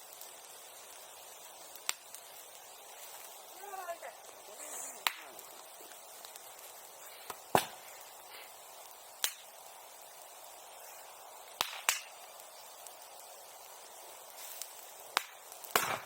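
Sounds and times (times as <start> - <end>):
bonfire popping: 0.0 - 16.0
faint steady hiss: 0.0 - 16.0.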